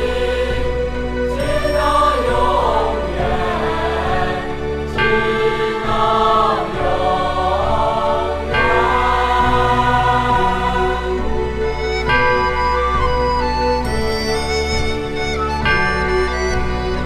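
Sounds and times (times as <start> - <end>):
choral singing: 0.0 - 17.0
sustained instrumental chords: 0.0 - 17.0.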